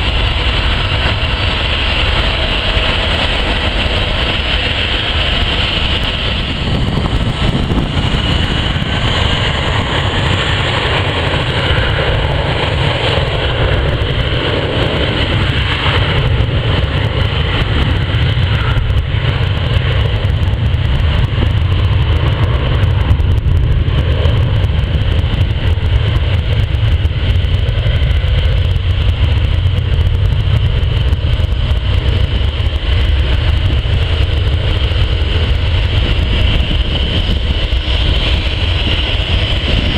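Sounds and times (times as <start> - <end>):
jet engine high whine: 0.0 - 39.9
jet engines rumbling: 0.0 - 39.9.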